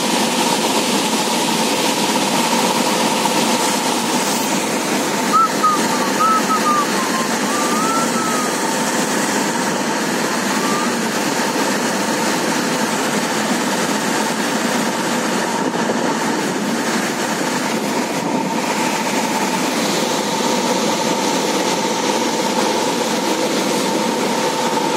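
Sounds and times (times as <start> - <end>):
floodwater roaring through spillway: 0.0 - 24.9.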